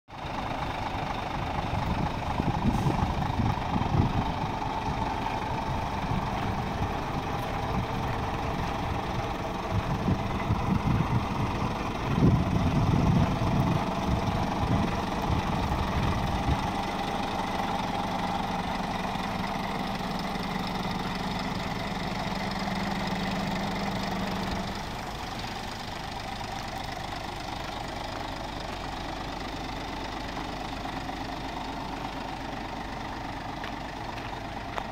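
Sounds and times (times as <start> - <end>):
truck diesel engine idling: 0.1 - 34.9
low rumbles: 0.2 - 34.9.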